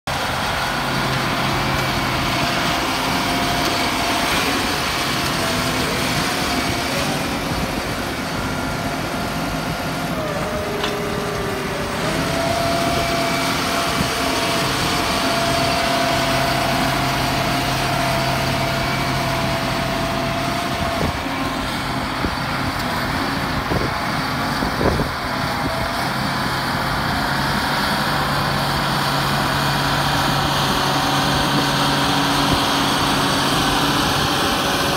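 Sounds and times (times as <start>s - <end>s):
tractor engine hum: 0.0s - 34.9s
combine whine: 0.1s - 34.9s.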